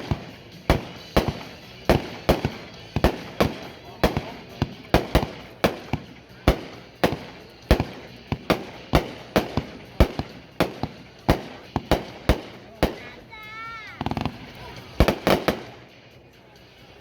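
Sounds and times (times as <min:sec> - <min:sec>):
firework bangs: 0:00.0 - 0:16.2.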